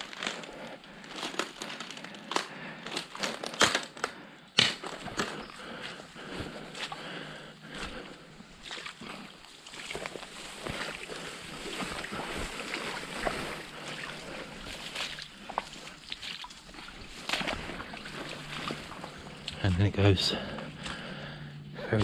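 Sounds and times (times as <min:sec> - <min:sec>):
footsteps through undergrowth: 0:00.0 - 0:03.5, 0:04.8 - 0:22.0
twigs and leaves snapping rustling: 0:00.0 - 0:19.8, 0:20.4 - 0:21.5.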